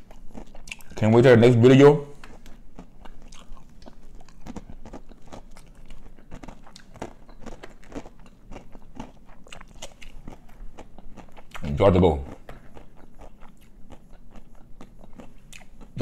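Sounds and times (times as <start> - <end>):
chewing crunches and wet clicks: 0.0 - 1.1, 2.2 - 16.0.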